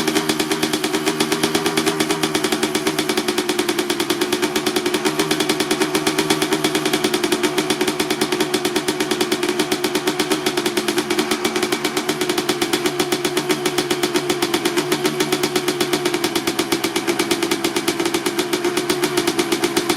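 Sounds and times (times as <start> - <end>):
two-stroke engine idling: 0.0 - 19.9.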